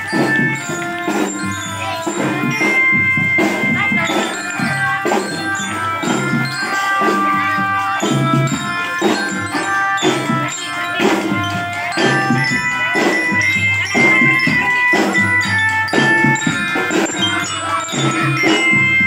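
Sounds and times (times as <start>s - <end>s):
marching drum beats: 0.0s - 19.0s
marching glockenspiel notes: 0.0s - 19.0s.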